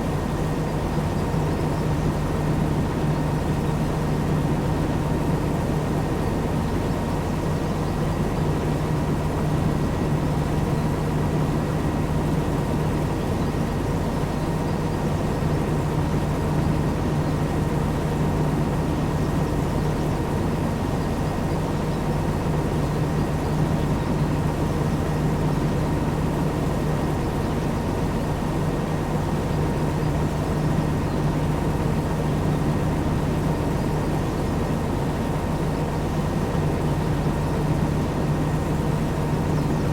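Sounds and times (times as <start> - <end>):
heavy machinery engine drone: 0.0 - 39.9.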